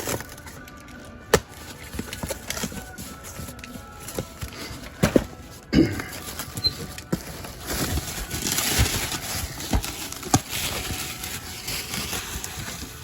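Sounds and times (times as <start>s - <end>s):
cardboard rustling: 0.0s - 13.0s
plastic blister packs knocking: 0.0s - 13.0s.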